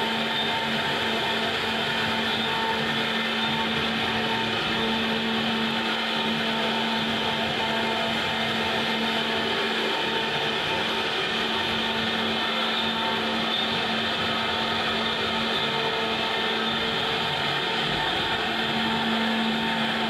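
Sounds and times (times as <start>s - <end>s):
cnc router spindle whining: 0.0s - 20.0s.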